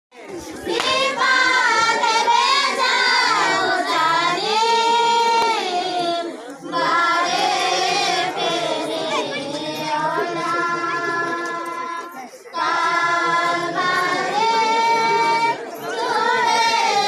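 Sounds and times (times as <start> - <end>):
high-pitched unaccompanied singing: 0.5 - 17.0.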